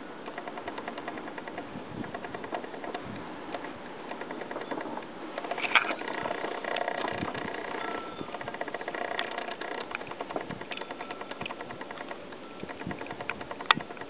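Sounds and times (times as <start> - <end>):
small engine running: 0.3 - 14.0.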